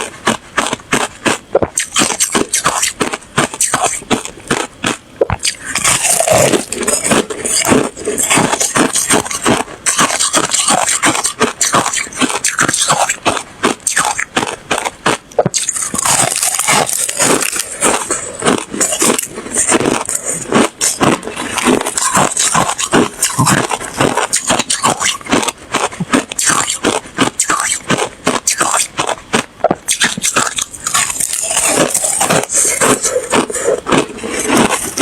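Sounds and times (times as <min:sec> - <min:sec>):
person crunching ice: 0:00.0 - 0:35.0.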